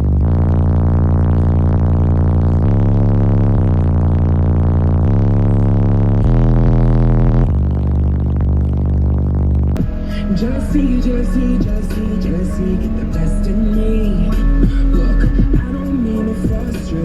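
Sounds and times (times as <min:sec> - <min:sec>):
deep bass notes through subwoofers: 0:00.0 - 0:17.0.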